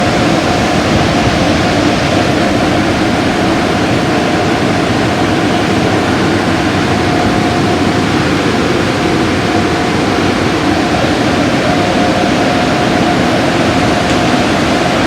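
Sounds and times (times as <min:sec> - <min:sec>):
car wash equipment rushing: 0:00.0 - 0:15.0
constant machine whine: 0:00.0 - 0:15.0.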